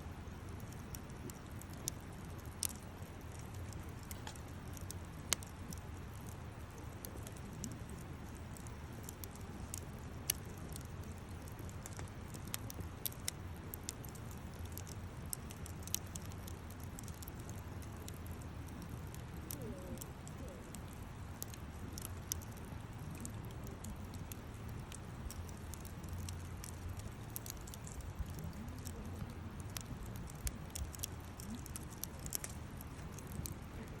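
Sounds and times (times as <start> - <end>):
fire crackling and popping: 0.0 - 34.0
low rush of flames: 0.0 - 34.0.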